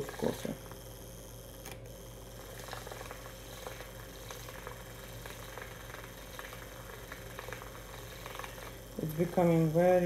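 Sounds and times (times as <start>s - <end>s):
milk frother whirring: 0.0s - 10.0s.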